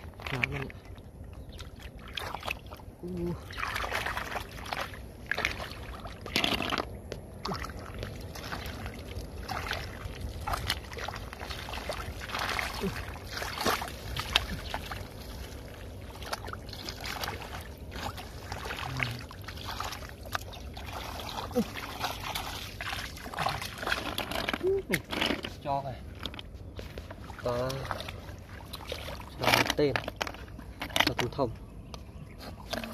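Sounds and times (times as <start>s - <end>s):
water sloshing and splashing: 0.0s - 32.9s
hands squelching in wet mud: 0.1s - 30.8s.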